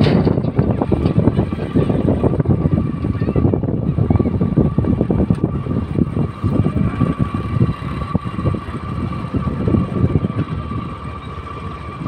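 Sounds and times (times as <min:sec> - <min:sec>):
motorcycle engine whine: 0:00.0 - 0:12.0
wind buffeting microphone: 0:00.0 - 0:12.0.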